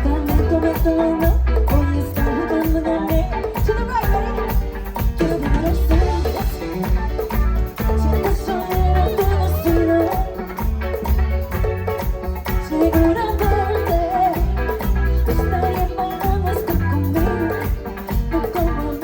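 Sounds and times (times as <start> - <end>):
live band playing merengue: 0.0 - 19.0
shaken percussion: 0.0 - 19.0.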